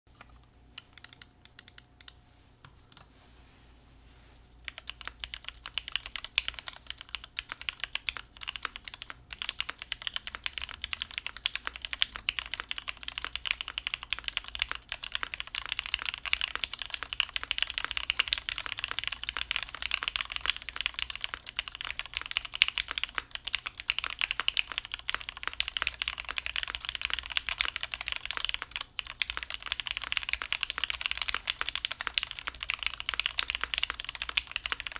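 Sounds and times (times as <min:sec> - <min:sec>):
mechanical keyboard typing: 0:00.8 - 0:02.2, 0:04.6 - 0:34.9.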